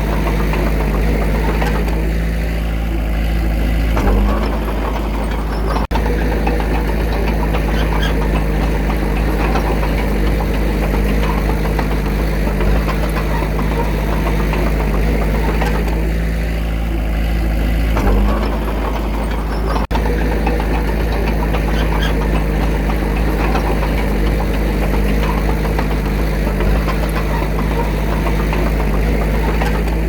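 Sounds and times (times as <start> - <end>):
machinery diesel engine running: 0.0 - 30.0.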